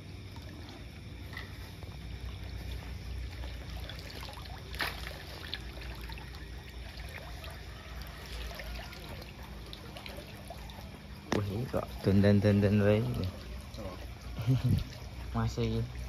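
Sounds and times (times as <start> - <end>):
low steady hum: 0.0 - 16.0
water trickling: 0.0 - 16.0.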